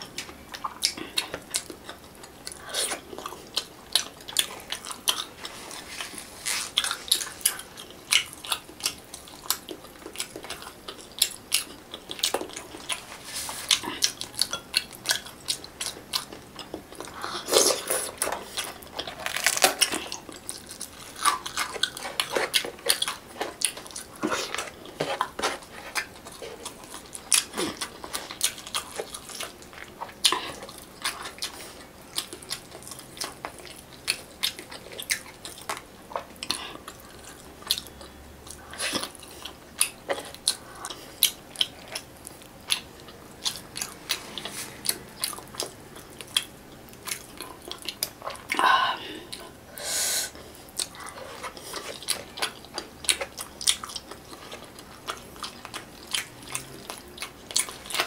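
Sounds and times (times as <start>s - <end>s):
chewing and lip smacks: 0.0s - 48.6s, 50.4s - 58.0s.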